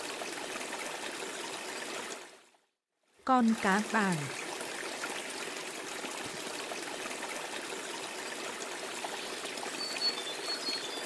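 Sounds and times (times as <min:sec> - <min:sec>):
pond water trickling: 0:00.0 - 0:11.0.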